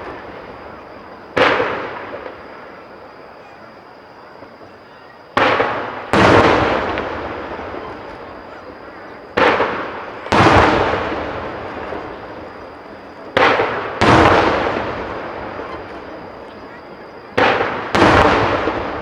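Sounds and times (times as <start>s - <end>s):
fireworks bangs: 0.0s - 19.0s
fireworks boom rumbling and echoing: 0.0s - 19.0s.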